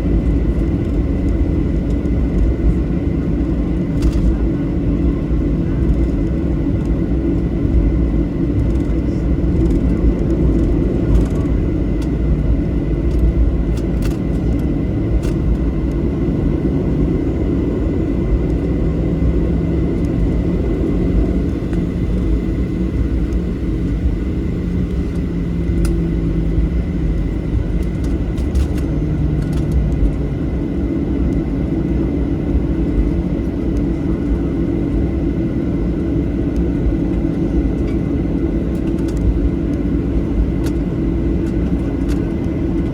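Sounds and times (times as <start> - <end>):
jet engines idling: 0.0 - 42.9.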